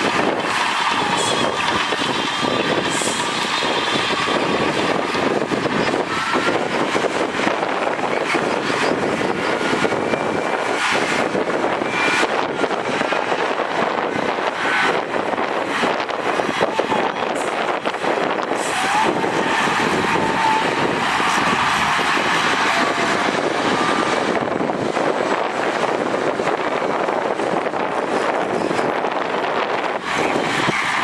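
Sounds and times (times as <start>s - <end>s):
heavy diesel machinery running: 0.0s - 31.0s
wind noise on microphone: 0.0s - 31.0s.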